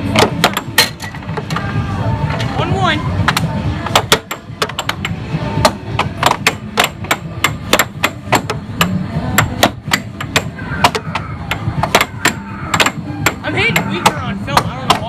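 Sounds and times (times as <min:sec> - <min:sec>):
air hockey puck clacking: 0:00.1 - 0:01.6, 0:03.2 - 0:15.0.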